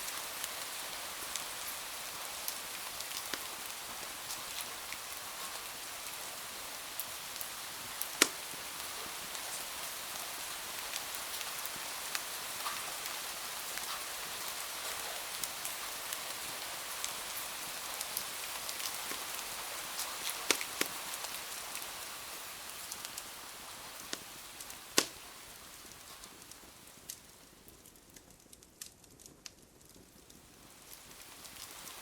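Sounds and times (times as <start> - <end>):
fireplace fire crackling: 0.0 - 32.0
rain against a window: 0.0 - 32.0.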